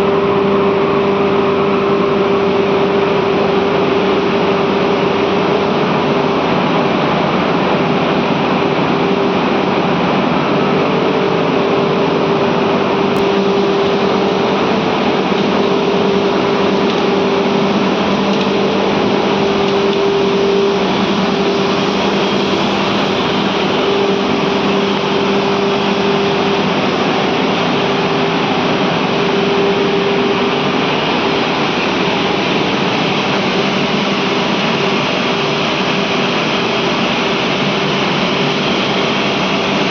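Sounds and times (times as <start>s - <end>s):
steam boiler machinery hum: 0.0s - 39.9s.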